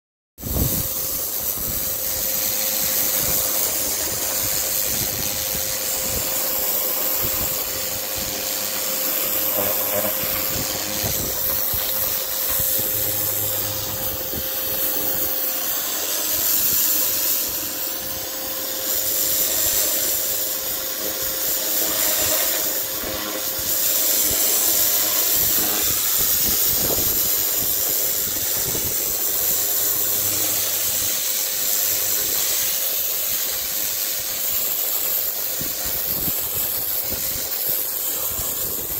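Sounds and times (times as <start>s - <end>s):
pressure washer jet hissing: 0.4s - 38.9s
constant hum: 0.5s - 38.9s.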